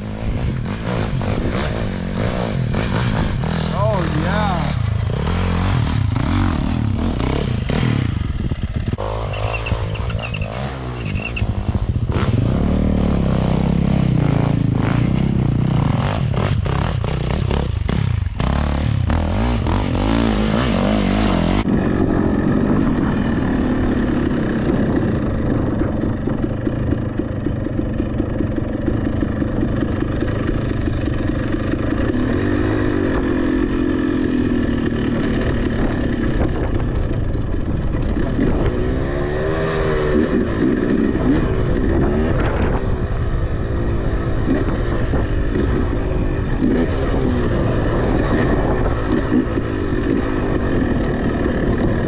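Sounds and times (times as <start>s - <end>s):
dirt bike engine: 0.0s - 52.0s.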